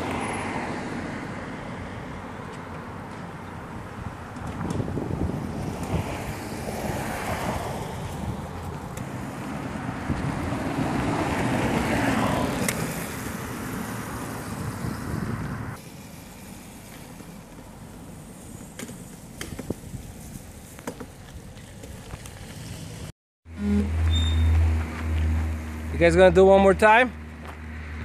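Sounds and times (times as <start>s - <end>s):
electric dirt bike riding by: 3.6s - 26.2s.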